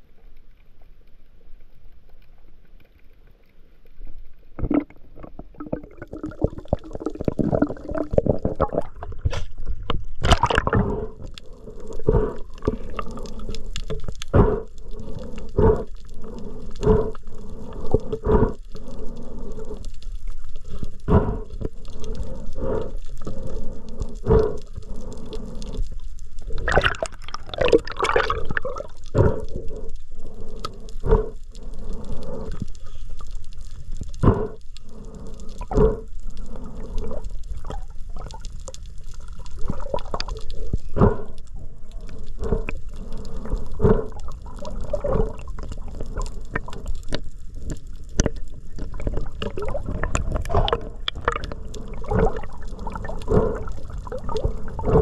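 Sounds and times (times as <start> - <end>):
water sloshing and gurgling: 0.0 - 55.0
water splashes: 4.5 - 19.7, 20.3 - 29.5, 30.2 - 55.0.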